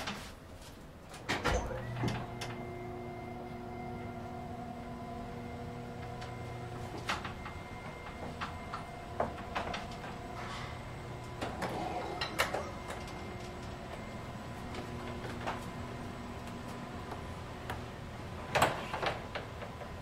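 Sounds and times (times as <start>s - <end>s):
elevator machine hum: 1.2s - 20.0s.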